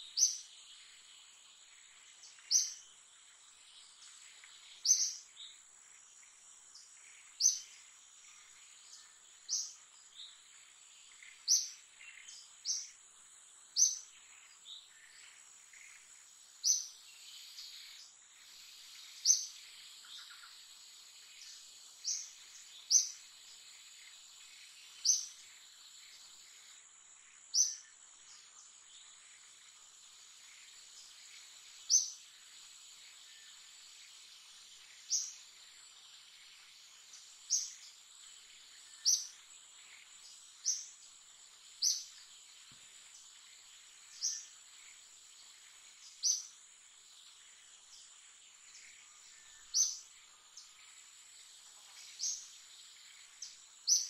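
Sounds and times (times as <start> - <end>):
insects whining: 0.1 - 54.0.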